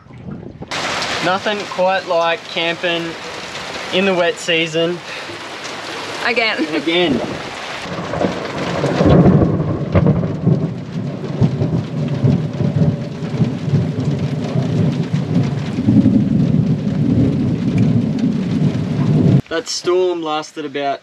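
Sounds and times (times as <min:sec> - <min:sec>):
thunder rumbling: 0:00.0 - 0:19.4
heavy rain: 0:00.7 - 0:20.5.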